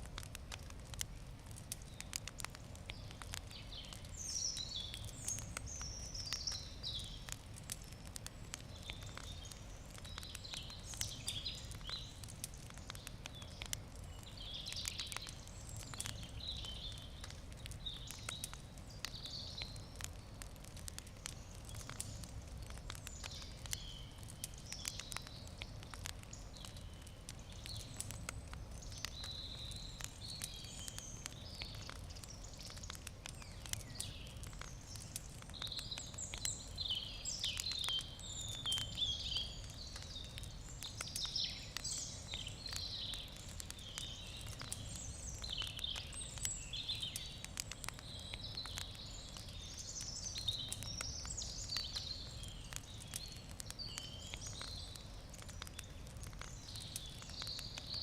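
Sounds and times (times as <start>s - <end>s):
campfire crackling and popping: 0.0s - 58.0s
birds chirping: 2.9s - 7.8s, 8.4s - 20.4s, 21.2s - 58.0s.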